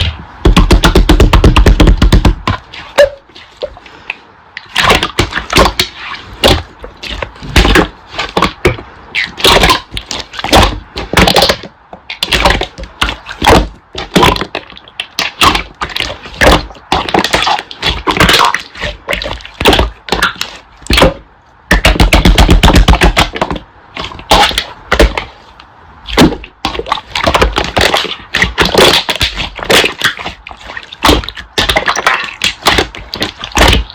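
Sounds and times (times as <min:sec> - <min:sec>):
slime squishing: 0:00.0 - 0:33.9.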